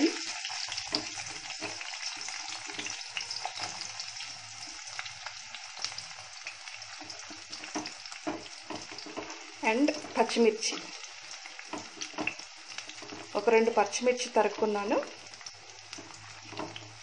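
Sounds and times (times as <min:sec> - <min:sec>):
oil popping and crackling: 0:00.0 - 0:17.0
onion sizzling in hot oil: 0:00.0 - 0:17.0.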